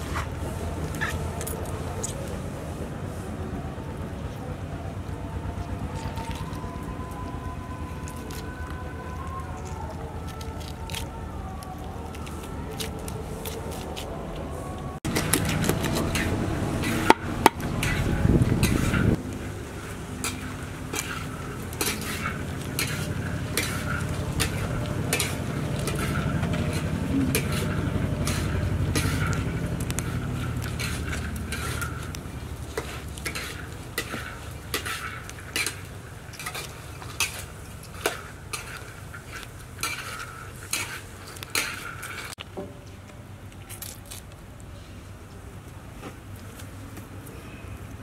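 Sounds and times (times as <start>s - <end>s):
low steady rumble: 0.0s - 43.6s.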